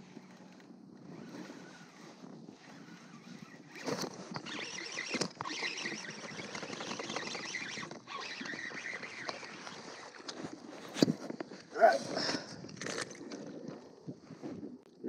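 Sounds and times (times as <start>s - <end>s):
fishing reel rattling whir: 0.0s - 14.0s.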